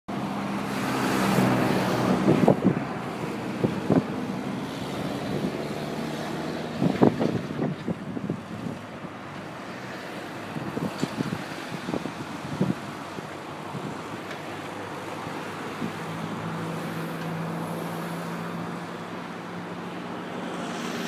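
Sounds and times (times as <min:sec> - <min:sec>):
wind on microphone: 0:00.2 - 0:21.0.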